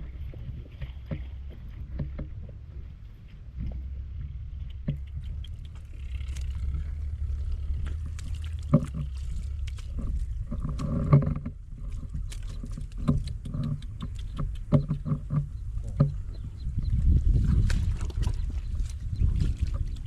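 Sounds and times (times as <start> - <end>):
steady low rumble: 0.0 - 20.0
water sloshing and splashing: 0.0 - 20.0.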